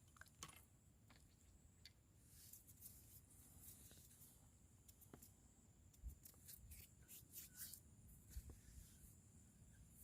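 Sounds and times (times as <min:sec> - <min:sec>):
soft high hiss: 0:00.0 - 0:10.0.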